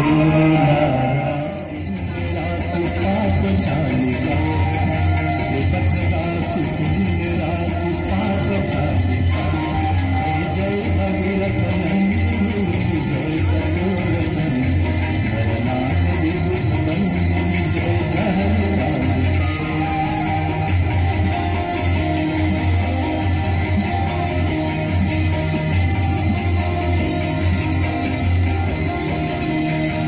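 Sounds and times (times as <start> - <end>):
devotional music: 0.0 - 30.0
bells jingling: 1.1 - 30.0.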